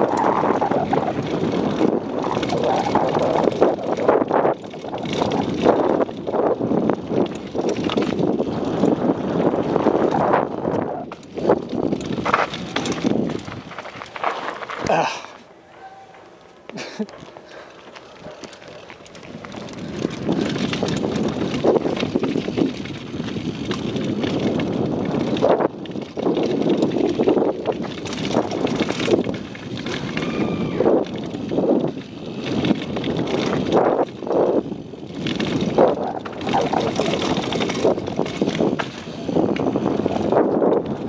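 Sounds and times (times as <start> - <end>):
wind on microphone: 0.0 - 14.2, 19.2 - 41.0
bike rattling over bumps: 0.0 - 41.0
tyres rolling over dirt and stones: 0.0 - 41.0.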